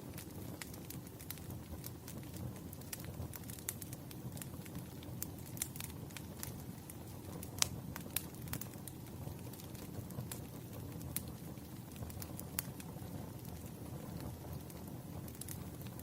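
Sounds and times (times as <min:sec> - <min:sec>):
bonfire crackling: 0:00.0 - 0:16.0.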